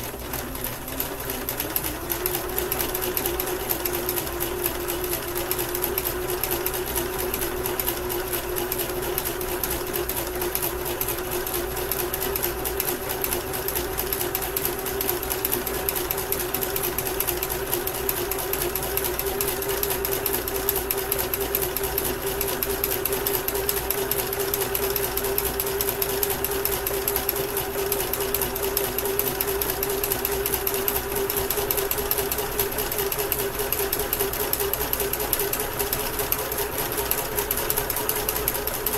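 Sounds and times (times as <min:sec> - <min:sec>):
electric sewing machine running: 0:00.0 - 0:38.9.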